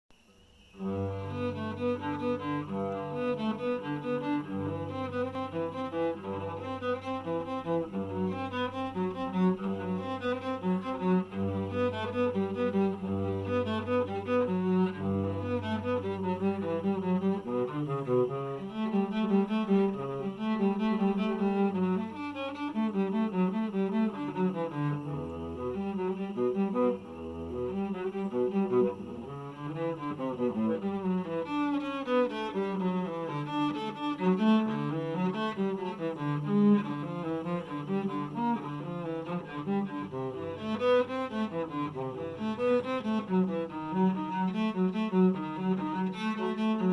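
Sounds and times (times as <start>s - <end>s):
bowed cello melody: 0.6s - 46.9s.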